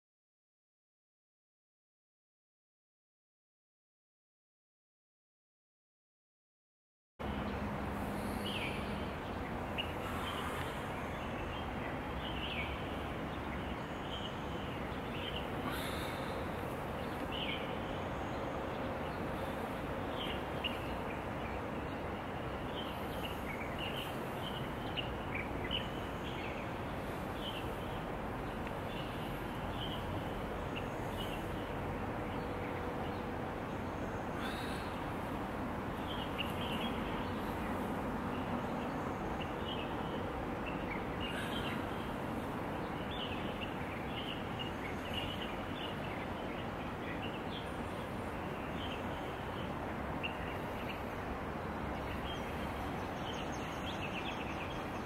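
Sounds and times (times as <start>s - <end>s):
small birds chirping: 7.3s - 55.0s.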